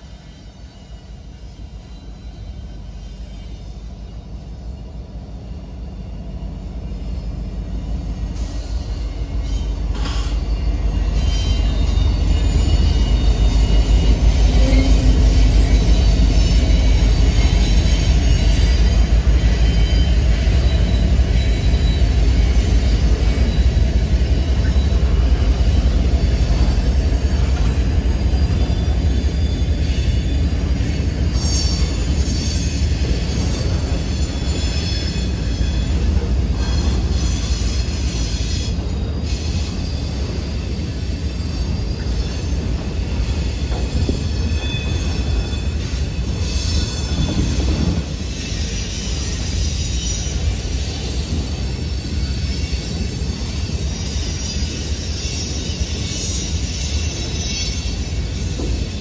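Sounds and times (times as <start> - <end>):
steel wheels rolling on rail: 0.0 - 59.0
high wheel squeals: 0.2 - 59.0.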